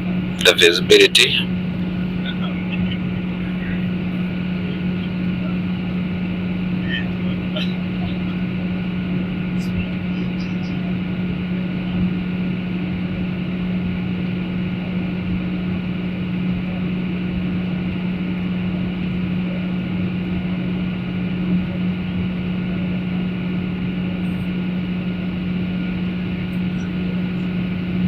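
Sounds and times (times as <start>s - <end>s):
airliner engines and airflow drone: 0.0s - 28.0s
constant low hum: 0.0s - 28.0s.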